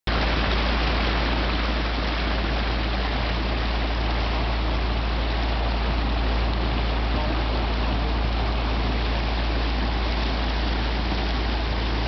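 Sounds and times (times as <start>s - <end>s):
boat engine humming: 0.1s - 12.0s
water rushing behind boat: 0.1s - 12.0s.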